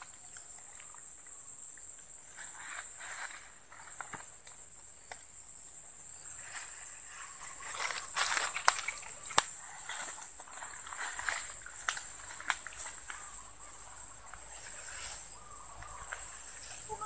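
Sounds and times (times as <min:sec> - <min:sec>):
insect drone: 0:00.0 - 0:17.0
rustling of grass and reeds: 0:00.0 - 0:17.0.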